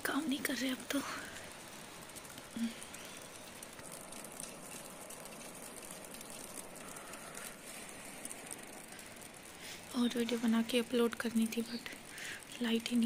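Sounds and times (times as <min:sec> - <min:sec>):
light breeze: 0:00.0 - 0:13.0
wet snow falling on leaves: 0:00.0 - 0:13.0.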